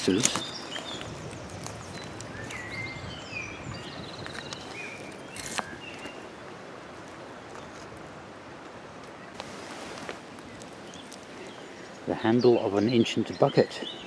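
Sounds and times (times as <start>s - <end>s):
small birds chirping: 0.0s - 6.6s, 9.0s - 14.0s
outdoor background rush: 0.0s - 14.0s.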